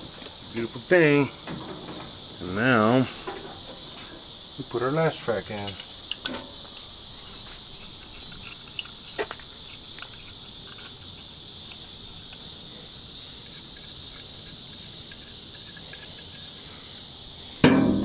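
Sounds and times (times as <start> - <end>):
insects chirping drone: 0.0 - 18.0.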